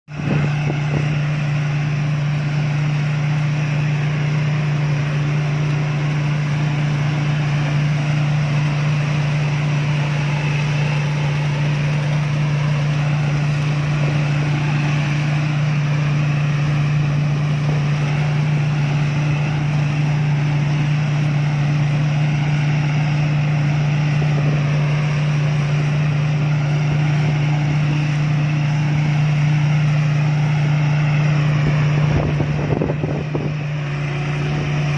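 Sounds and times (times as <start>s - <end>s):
combine harvester engine droning: 0.1s - 34.9s.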